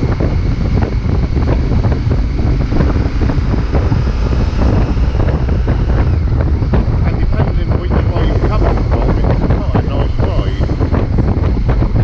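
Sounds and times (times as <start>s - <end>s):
low rumble of moving vehicle: 0.0s - 12.0s
wind buffeting on microphone: 0.0s - 12.0s.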